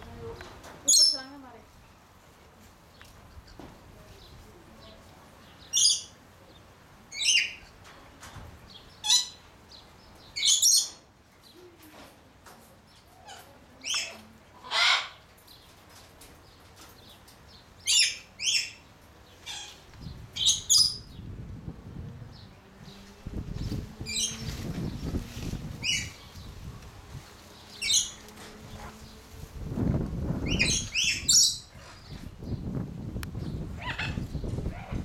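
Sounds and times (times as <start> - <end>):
small birds chirping: 0.1 - 2.0, 2.8 - 21.4, 22.2 - 35.0.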